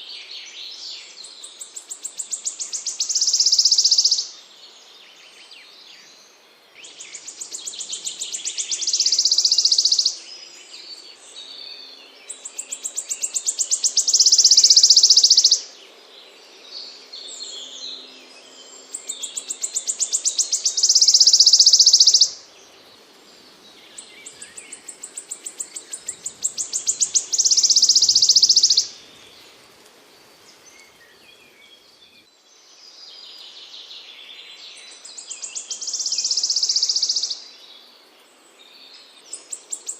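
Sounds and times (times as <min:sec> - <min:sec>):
soft bird chirps: 0:00.0 - 0:04.4, 0:06.8 - 0:15.7, 0:17.2 - 0:29.6, 0:30.5 - 0:39.9
songbird singing trill: 0:00.0 - 0:29.7, 0:30.5 - 0:39.9.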